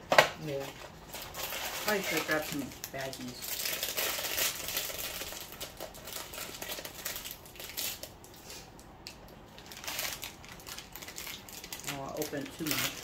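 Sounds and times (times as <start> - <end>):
plastic snack bag crinkling: 0.4 - 8.4, 9.5 - 13.0.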